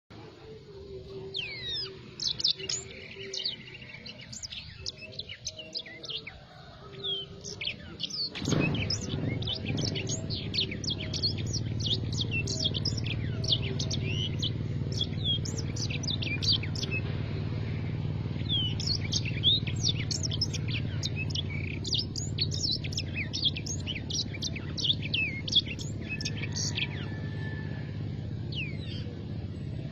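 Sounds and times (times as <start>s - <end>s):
steady low hum: 0.1s - 29.9s
canary singing: 0.4s - 29.9s.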